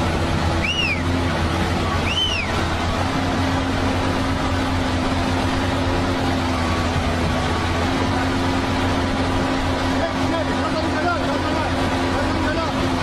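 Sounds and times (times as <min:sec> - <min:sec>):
diesel engine humming: 0:00.0 - 0:13.0
rushing floodwater: 0:00.0 - 0:13.0.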